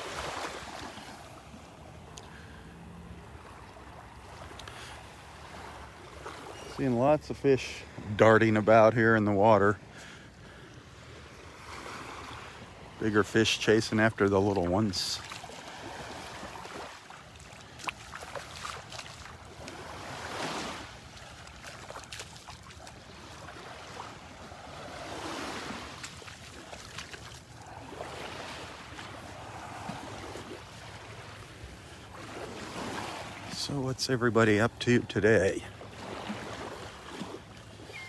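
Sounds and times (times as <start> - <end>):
small waves lapping on beach: 0.0 - 38.0.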